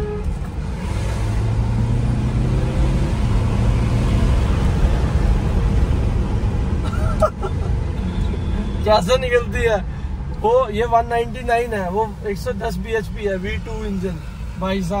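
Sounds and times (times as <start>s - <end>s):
car cabin engine drone: 0.0s - 15.0s.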